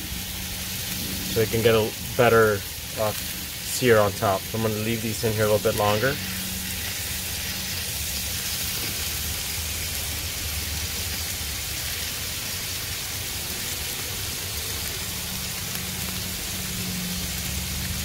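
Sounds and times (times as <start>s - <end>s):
patties sizzling on a griddle: 0.0s - 18.0s.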